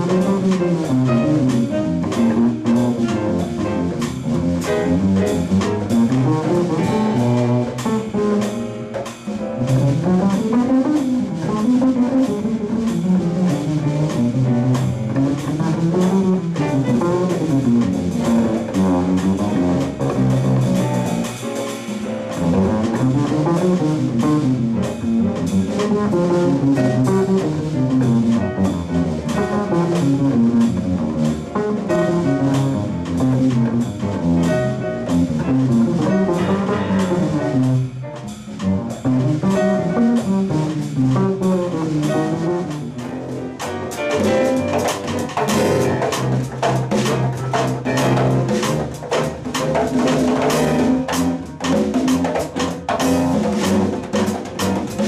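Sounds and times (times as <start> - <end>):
bass guitar playing jazz: 0.0 - 55.0
drum kit: 0.0 - 55.0.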